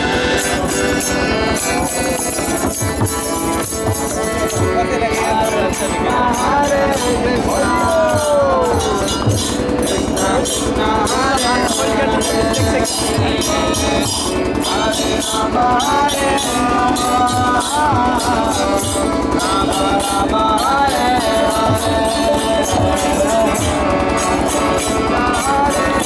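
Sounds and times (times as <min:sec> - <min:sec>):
hand cymbals ringing: 0:00.0 - 0:26.0.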